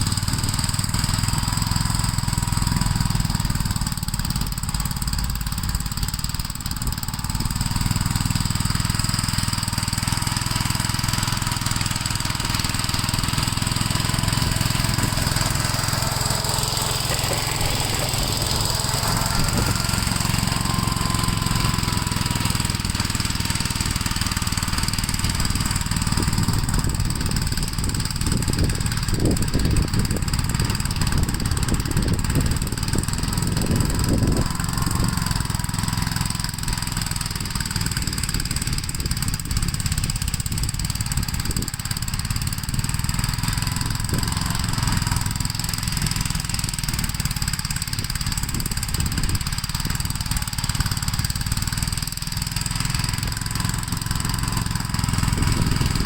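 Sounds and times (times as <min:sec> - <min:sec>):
walk-behind tractor engine running: 0:00.0 - 0:56.0.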